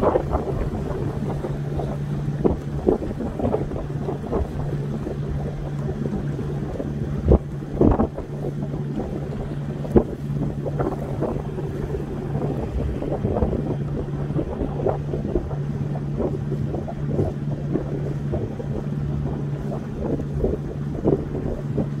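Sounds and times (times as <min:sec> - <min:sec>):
boat engine humming: 0:00.0 - 0:22.0
water splashing: 0:00.0 - 0:22.0
wind buffeting microphone: 0:00.0 - 0:22.0.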